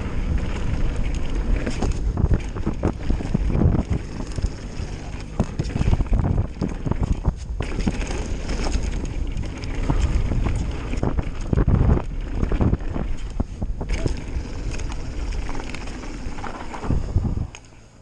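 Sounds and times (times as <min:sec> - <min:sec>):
wind buffeting microphone: 0:00.0 - 0:17.6
bike knocking and rattling: 0:00.0 - 0:18.0.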